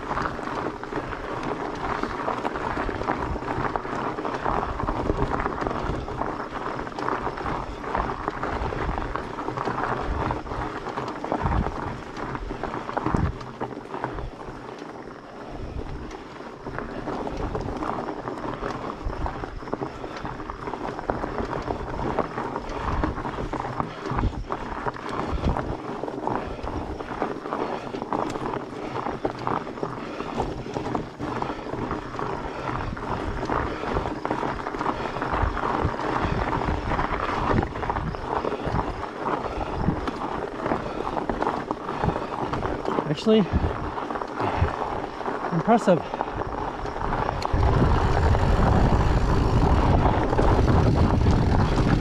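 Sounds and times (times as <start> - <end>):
bike tyres crunching over dirt: 0.0 - 52.0
wind buffeting microphone: 0.0 - 52.0.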